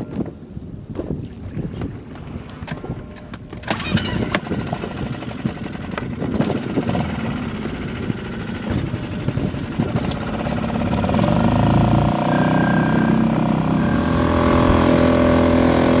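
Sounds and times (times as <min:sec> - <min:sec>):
small outboard motor running: 0:02.4 - 0:16.0.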